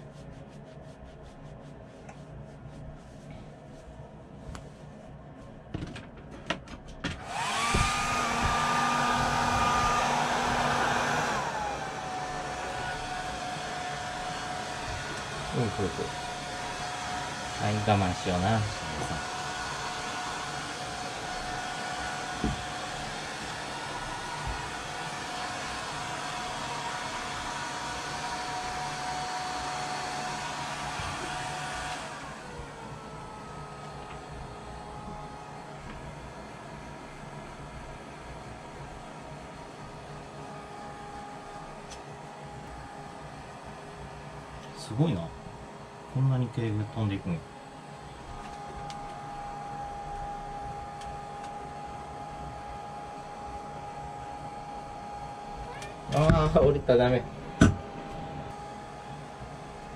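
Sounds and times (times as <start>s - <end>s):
hair dryer blowing: 7.2s - 59.9s.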